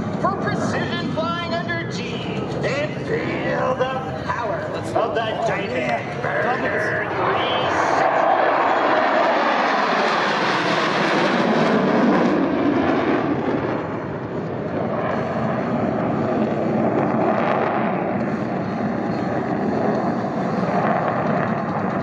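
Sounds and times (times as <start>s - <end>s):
fighter jets flying past: 0.0s - 22.0s.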